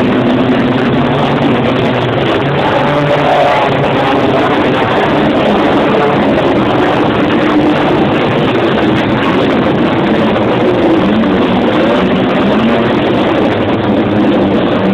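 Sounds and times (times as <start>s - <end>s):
race car engines revving: 0.0s - 14.9s.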